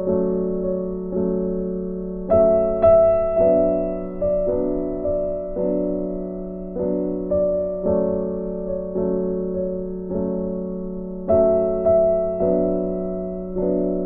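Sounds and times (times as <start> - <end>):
gentle piano piece: 0.0 - 14.0.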